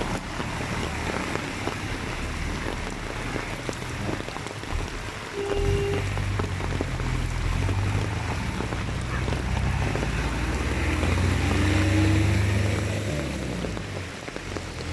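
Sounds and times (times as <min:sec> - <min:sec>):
water and rain noise: 0:00.0 - 0:14.9.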